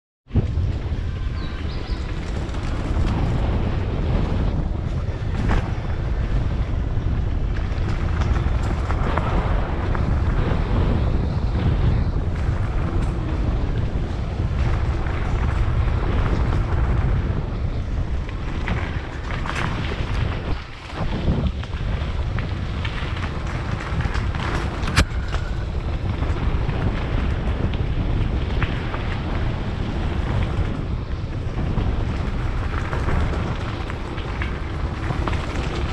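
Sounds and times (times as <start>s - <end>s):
bike knocks and rattles: 0.3s - 35.9s
gravel ticking: 0.3s - 35.9s
tyres rumbling on dirt trail: 0.3s - 35.9s
wind buffeting microphone: 0.3s - 35.9s.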